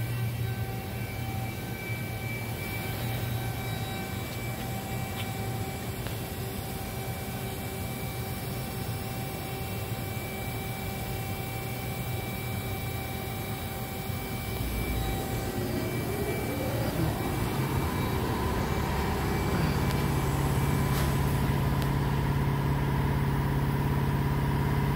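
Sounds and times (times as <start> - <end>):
machine whine rising in pitch: 0.0 - 24.9
machining center humming: 0.0 - 24.9.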